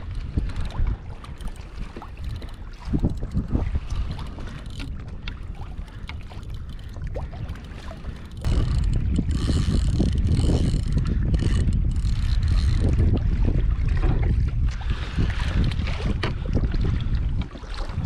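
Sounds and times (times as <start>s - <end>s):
water sounds: 0.0s - 18.0s
wind buffeting microphone: 0.0s - 18.0s.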